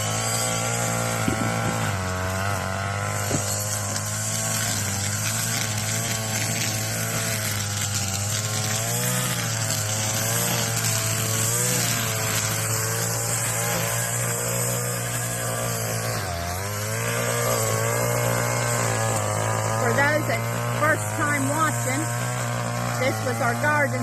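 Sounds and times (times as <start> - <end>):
string trimmer engine running: 0.0 - 24.0.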